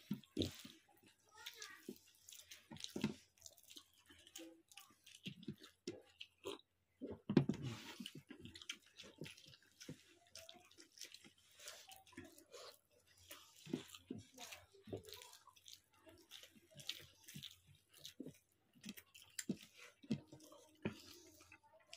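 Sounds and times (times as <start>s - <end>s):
chewing and lip-smacking: 0.0s - 21.9s
hands squelching in soft food: 0.0s - 21.9s.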